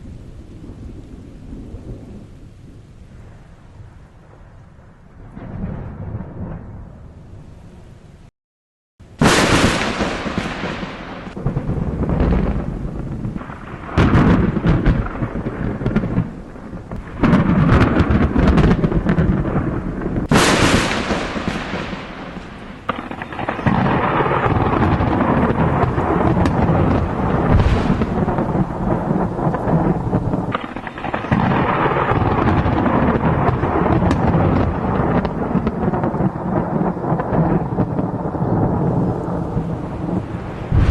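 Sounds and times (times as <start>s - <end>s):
rolling thunder rumbles: 0.0s - 8.3s, 9.0s - 40.9s
sharp thunder crack: 5.2s - 7.2s, 9.1s - 40.9s.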